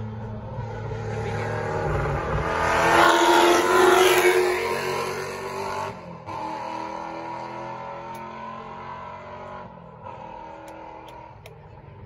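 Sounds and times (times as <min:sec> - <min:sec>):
racing car passing at speed: 0:00.0 - 0:12.0.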